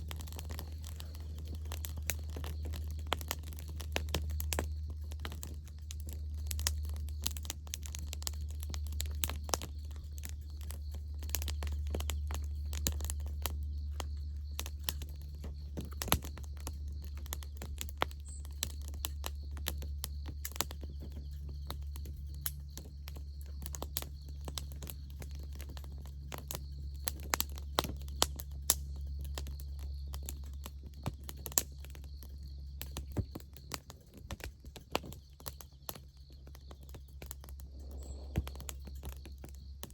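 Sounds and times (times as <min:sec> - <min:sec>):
campfire crackling and popping: 0:00.0 - 0:39.9
steady low hum: 0:00.0 - 0:39.9.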